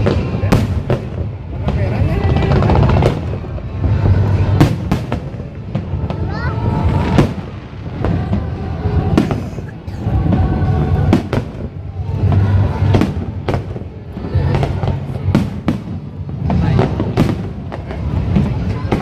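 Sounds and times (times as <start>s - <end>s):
fireworks bursting: 0.0s - 19.0s
music playing: 0.0s - 19.0s.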